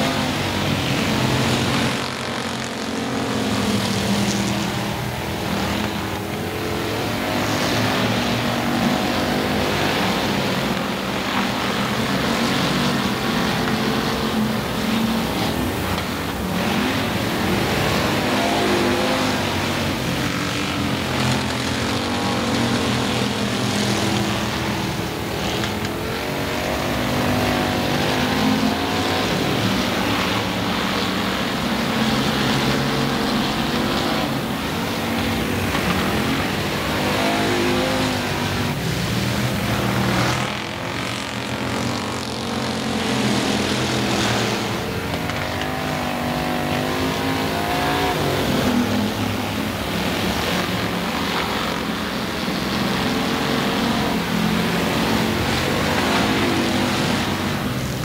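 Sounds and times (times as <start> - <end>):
race car engines: 0.0 - 58.0.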